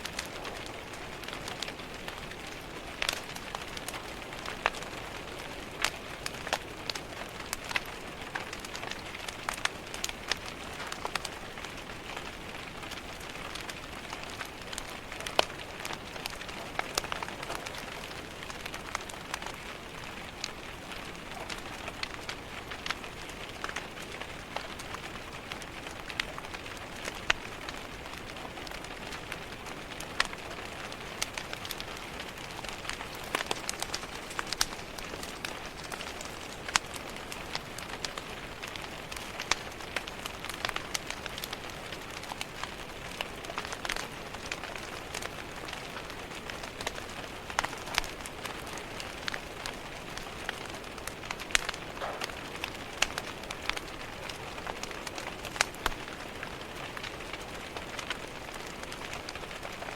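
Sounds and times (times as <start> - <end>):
log fire crackling: 0.0 - 59.9
rain tapping on window glass: 0.0 - 59.9.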